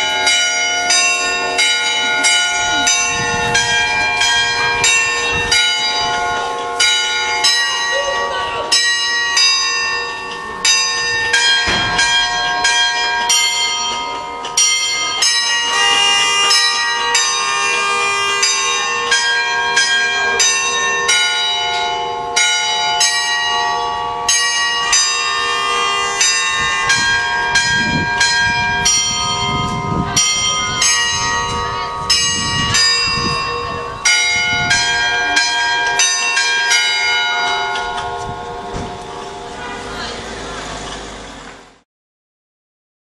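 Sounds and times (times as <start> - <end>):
church bells ringing: 0.0 - 41.3.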